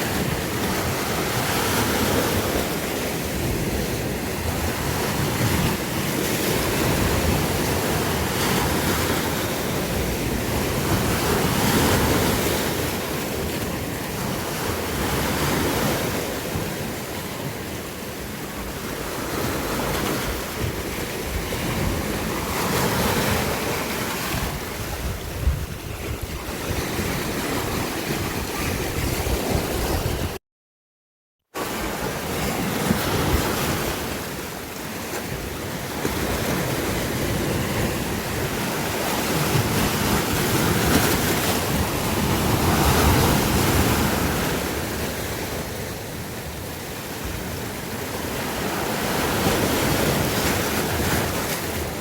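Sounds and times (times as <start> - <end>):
sea waves breaking ashore: 0.0 - 30.4, 31.6 - 52.0.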